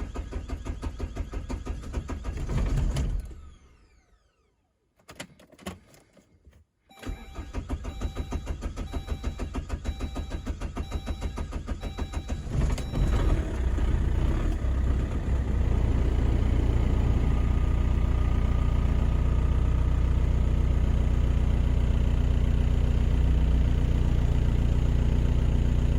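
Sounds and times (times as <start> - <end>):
diesel engine starting and idling: 0.0 - 4.5, 6.9 - 25.9.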